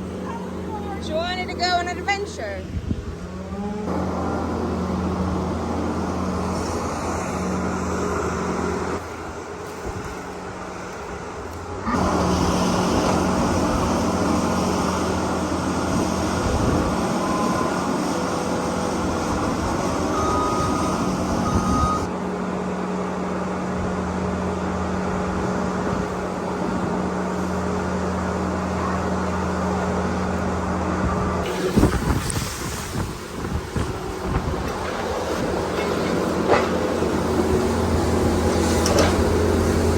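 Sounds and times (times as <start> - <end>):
skid loader engine running: 0.0 - 39.9.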